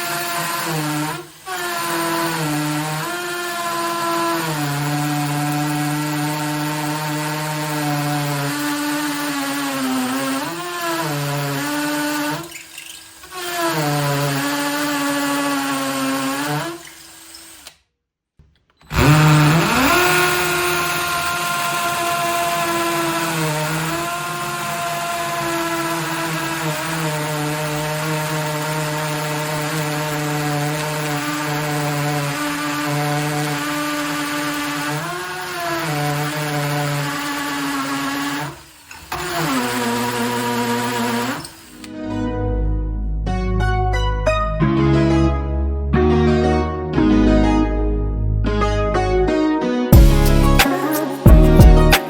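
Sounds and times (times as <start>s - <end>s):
impact driver motor whining: 0.0s - 17.8s, 18.5s - 42.0s, 50.0s - 52.0s.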